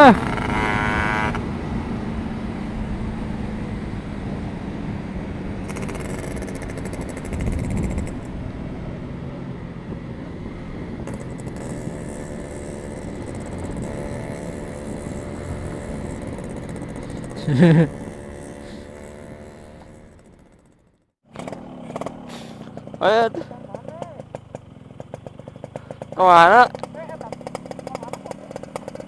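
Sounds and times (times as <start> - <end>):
two-stroke engine running: 0.0 - 1.6, 4.8 - 8.4, 10.6 - 29.0.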